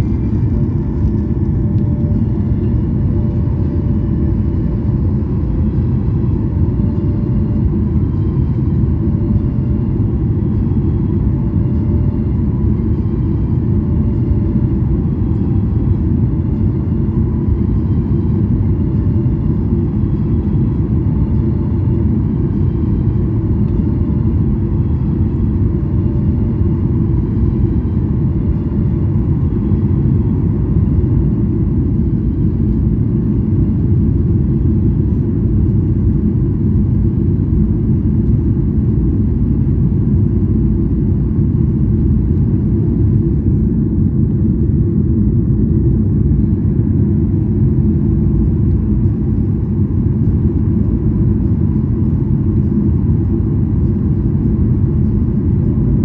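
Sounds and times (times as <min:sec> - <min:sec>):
airliner engine rumble: 0:00.0 - 0:56.0
faint steady whine: 0:00.0 - 0:56.0.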